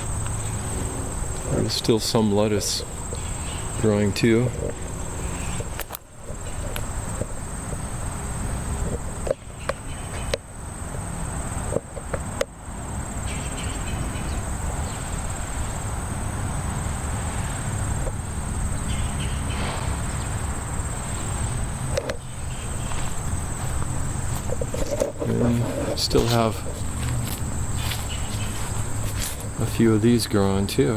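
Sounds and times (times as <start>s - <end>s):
insects trilling: 0.0s - 30.9s.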